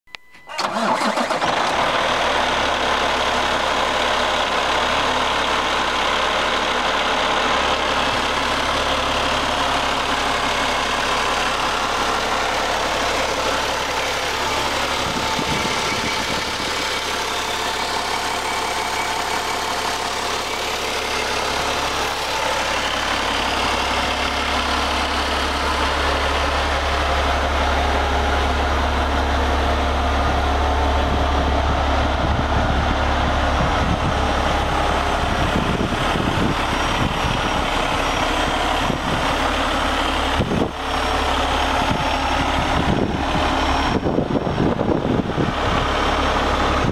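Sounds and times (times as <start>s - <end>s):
diesel engine idling: 0.4s - 46.9s.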